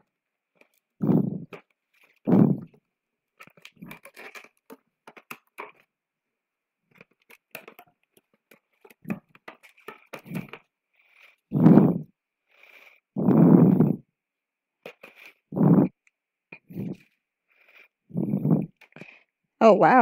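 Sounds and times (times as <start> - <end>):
handling rustles and scrapes: 0.5 - 5.9, 6.9 - 14.0, 14.8 - 15.9, 16.6 - 19.0.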